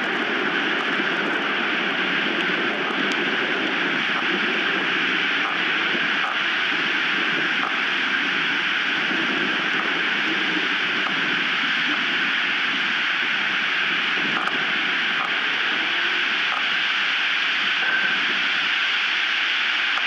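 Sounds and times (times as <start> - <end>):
strong wind blowing: 0.0 - 16.9.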